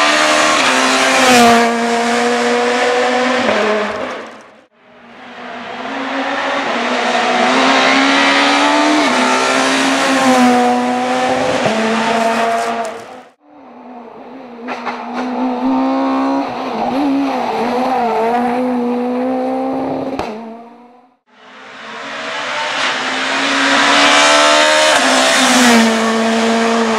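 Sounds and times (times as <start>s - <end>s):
rally car engines at high revs: 0.0s - 26.9s.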